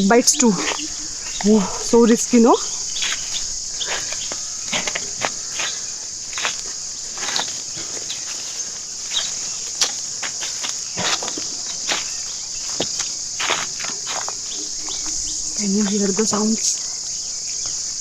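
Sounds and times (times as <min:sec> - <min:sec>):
footsteps crunching on dirt: 0:00.0 - 0:16.6
high-pitched insect drone: 0:00.0 - 0:18.0.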